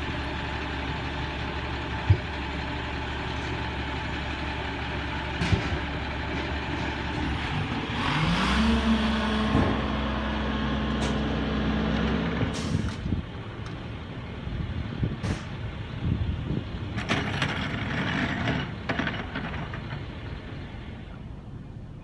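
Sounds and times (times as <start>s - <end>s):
diesel engine idling and revving: 0.0s - 22.0s.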